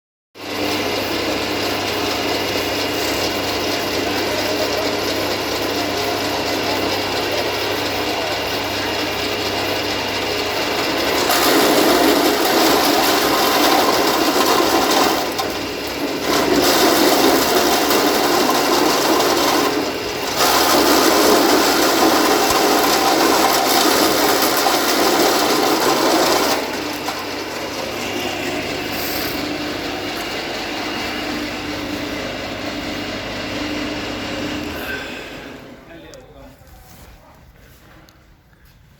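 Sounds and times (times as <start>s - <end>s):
chaff cutter whirring: 0.4s - 36.3s.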